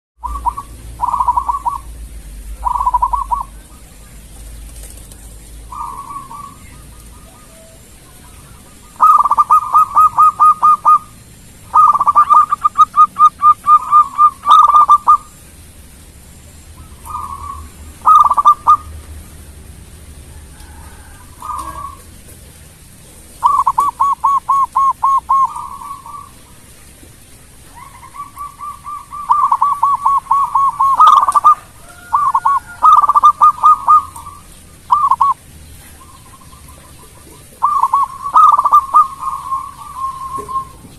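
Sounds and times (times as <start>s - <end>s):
dove cooing: 0.2s - 15.4s, 16.8s - 19.0s, 20.2s - 26.7s, 27.6s - 40.9s.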